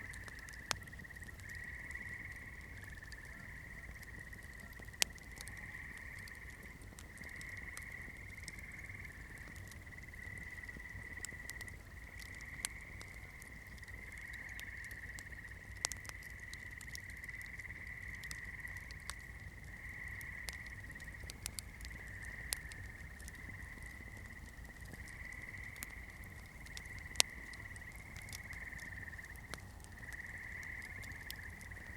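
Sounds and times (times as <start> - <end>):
campfire crackling: 0.0 - 31.9
sharp pops from burning wood: 0.0 - 31.9.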